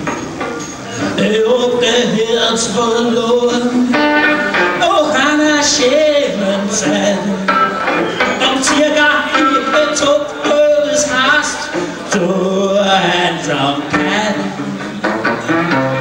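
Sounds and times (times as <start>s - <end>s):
guitar strumming: 0.0s - 16.0s
man singing: 0.9s - 7.6s, 8.2s - 15.8s.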